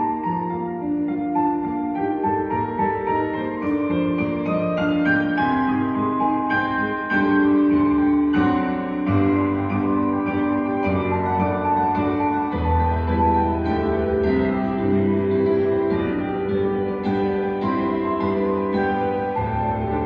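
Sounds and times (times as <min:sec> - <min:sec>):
solo piano playing: 0:00.0 - 0:20.0.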